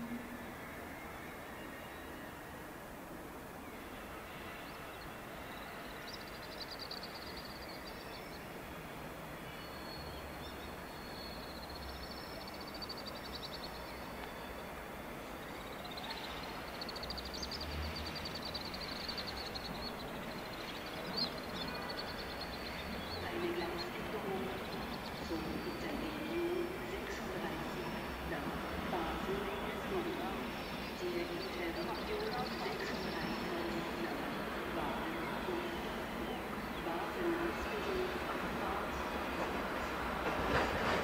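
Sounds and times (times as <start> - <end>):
trains rumbling over tracks: 0.0 - 41.0.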